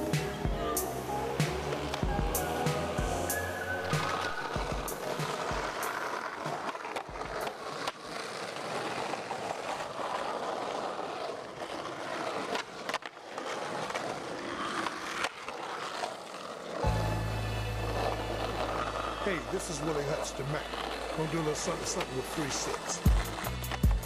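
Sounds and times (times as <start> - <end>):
skateboard clacking on ground: 0.0 - 17.0, 17.8 - 24.0
skateboard wheels rolling on asphalt: 0.0 - 24.0.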